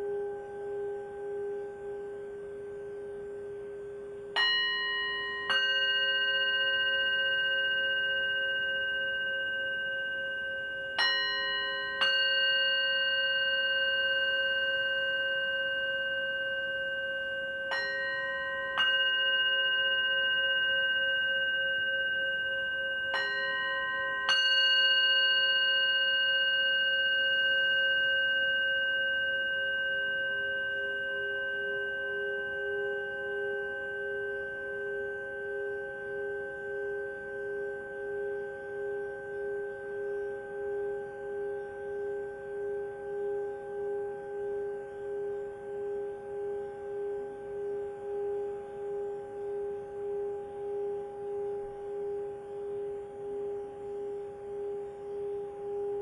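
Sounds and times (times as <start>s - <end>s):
singing bowl struck and ringing: 0.0s - 56.0s.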